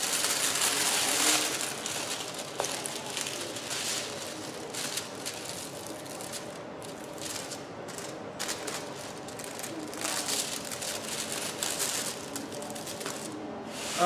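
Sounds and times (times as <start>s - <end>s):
plastic film crinkling: 0.0s - 13.4s.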